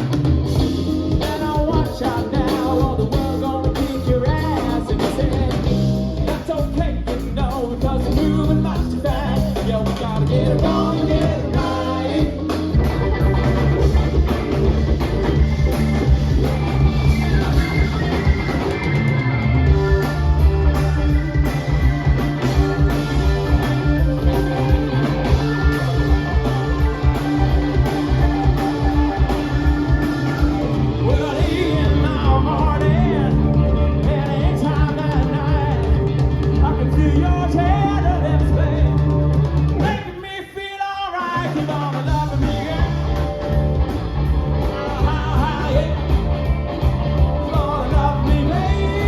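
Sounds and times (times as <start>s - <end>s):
electric guitar lines: 0.0s - 40.1s, 42.0s - 49.0s
live band playing: 0.0s - 49.0s.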